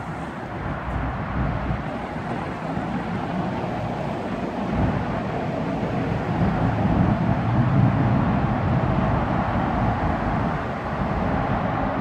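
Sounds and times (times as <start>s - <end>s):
lorry diesel engine rumbling: 0.0s - 12.0s
passing traffic: 0.0s - 12.0s.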